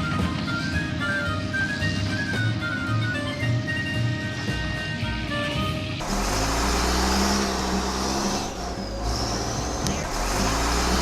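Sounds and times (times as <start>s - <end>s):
motor humming and whining: 0.0s - 11.0s
music: 0.0s - 11.0s.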